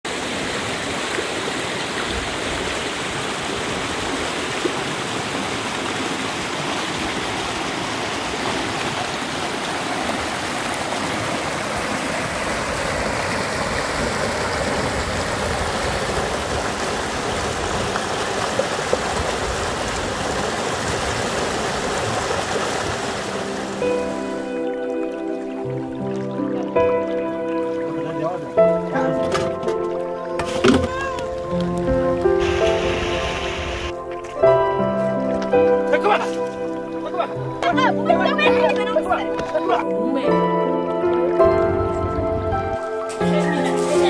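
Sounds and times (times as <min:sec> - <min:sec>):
stream water rushing: 0:00.0 - 0:44.0.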